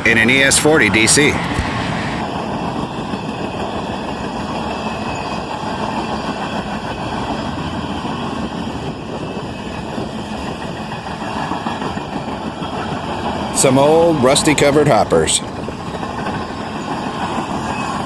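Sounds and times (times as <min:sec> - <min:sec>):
diesel locomotives rumbling: 0:00.0 - 0:18.0
train cars rolling on rails: 0:00.0 - 0:18.0.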